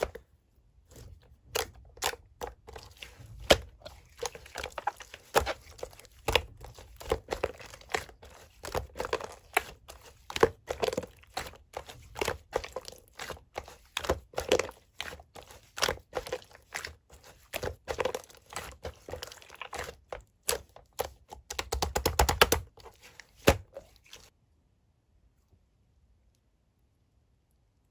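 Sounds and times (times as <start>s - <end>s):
slime squished by hand: 0.9s - 24.3s.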